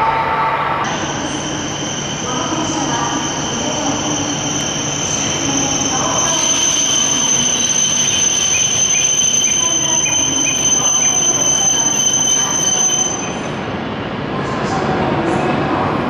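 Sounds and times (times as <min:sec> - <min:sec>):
high-pitched whines: 0:00.0 - 0:13.6
train wheels rushing: 0:00.9 - 0:15.0.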